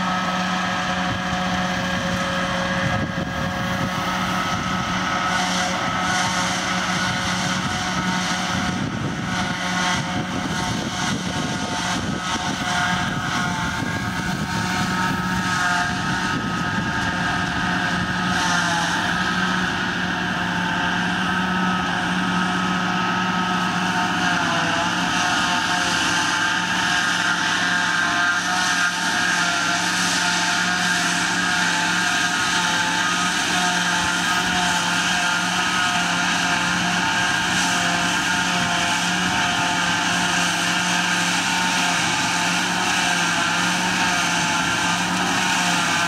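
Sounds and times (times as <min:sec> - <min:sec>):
machinery whining: 0:00.0 - 0:46.0
tractor engine drone: 0:00.0 - 0:46.0.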